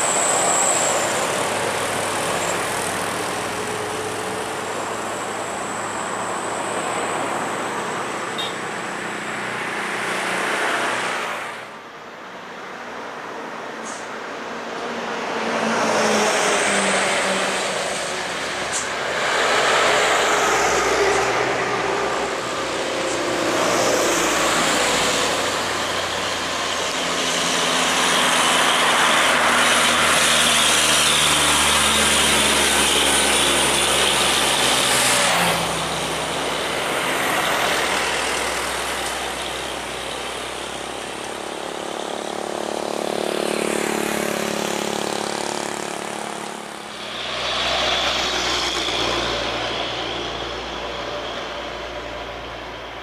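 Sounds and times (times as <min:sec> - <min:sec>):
highway traffic passing: 0:00.0 - 0:53.0.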